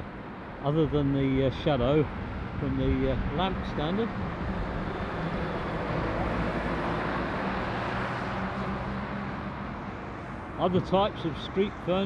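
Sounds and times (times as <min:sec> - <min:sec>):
diesel lorry engine drone: 0:00.0 - 0:12.0
tyre and road noise: 0:00.0 - 0:12.0.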